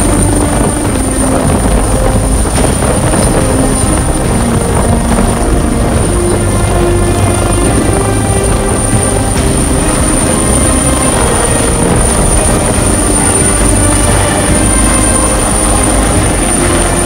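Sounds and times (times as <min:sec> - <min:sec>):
helicopter rotor and engines: 0:00.0 - 0:17.0
high-pitched whine: 0:00.0 - 0:17.0.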